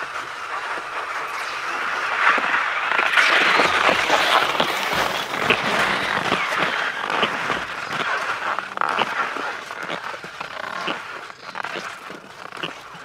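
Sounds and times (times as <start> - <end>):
skis scraping over crusted snow: 0.0 - 13.0
ski poles crunching into snow: 2.2 - 13.0.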